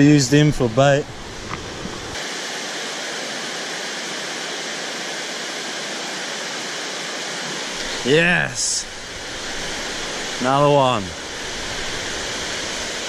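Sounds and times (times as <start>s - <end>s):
river water rushing over weir: 0.0s - 13.0s.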